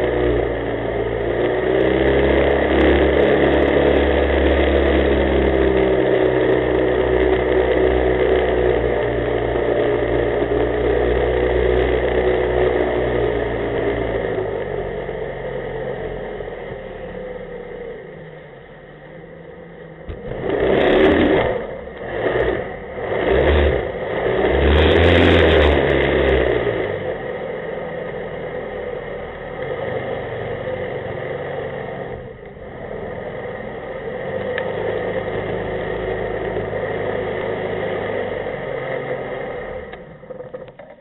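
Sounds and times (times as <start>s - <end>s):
boat engine revving: 0.0s - 14.6s, 20.1s - 41.0s.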